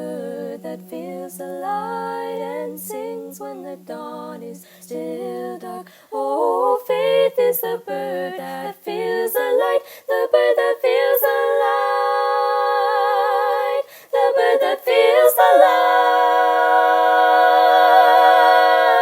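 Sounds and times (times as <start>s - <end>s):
woman singing a cappella harmony: 0.0s - 19.0s.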